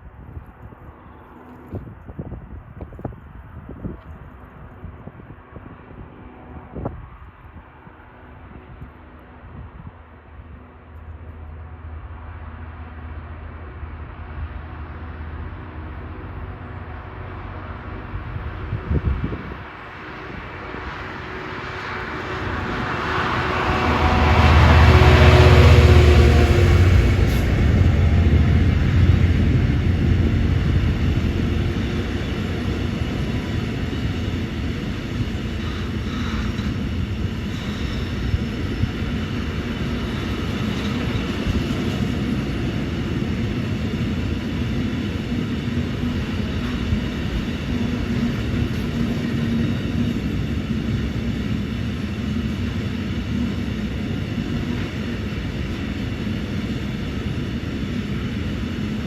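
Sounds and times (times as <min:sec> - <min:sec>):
diesel locomotive engine: 0:00.0 - 0:59.0
train wagons rolling on rails: 0:10.0 - 0:59.0.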